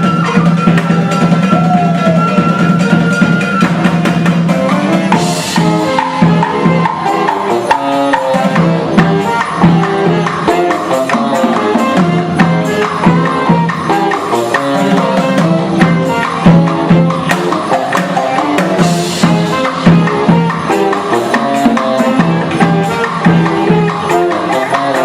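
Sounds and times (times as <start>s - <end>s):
fast melodic notes: 0.0s - 25.0s
hand percussion: 0.0s - 25.0s.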